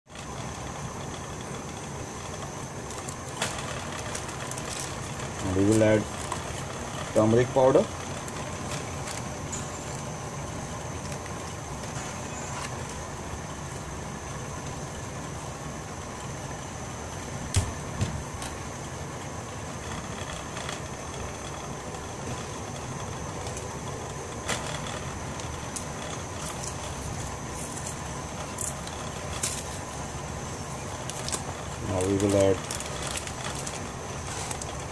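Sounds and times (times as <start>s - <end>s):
gas burner hissing: 0.1s - 34.9s.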